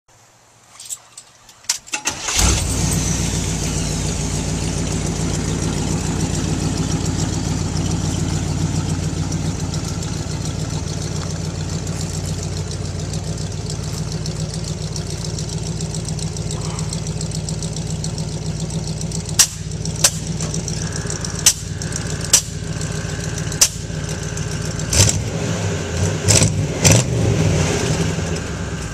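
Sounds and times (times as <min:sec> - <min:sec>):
engine cranking and idling: 0:01.4 - 0:28.9
engine throttle blips: 0:02.1 - 0:28.9.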